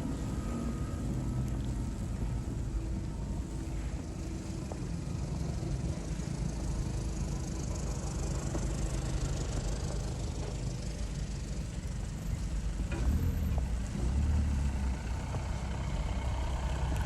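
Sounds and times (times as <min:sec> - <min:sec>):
faint engine hum: 0:00.0 - 0:17.0
traffic rumble: 0:00.0 - 0:17.0.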